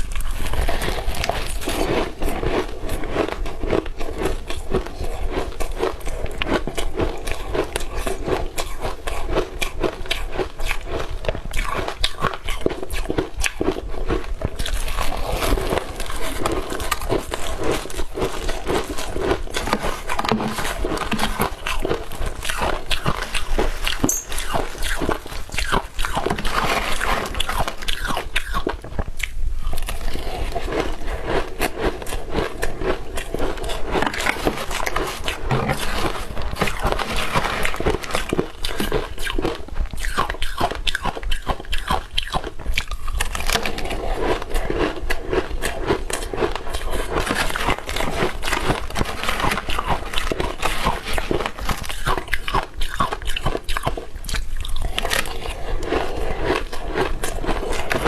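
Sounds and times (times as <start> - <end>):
chewing and crunching ice: 0.0 - 58.0.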